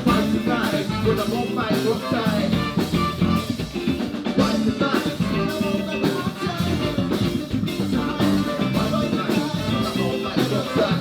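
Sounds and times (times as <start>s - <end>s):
live band playing ska groove: 0.0s - 11.0s.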